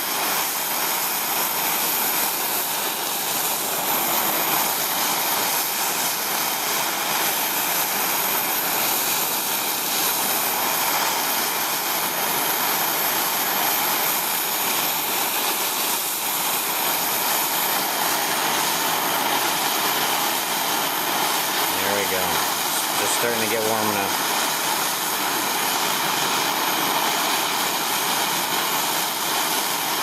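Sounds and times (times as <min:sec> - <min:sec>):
gas torch hissing: 0:00.0 - 0:30.0.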